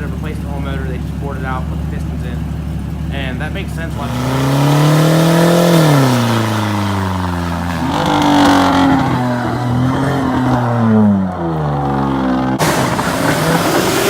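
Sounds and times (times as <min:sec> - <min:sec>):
car engine running while driving: 0:00.0 - 0:14.0.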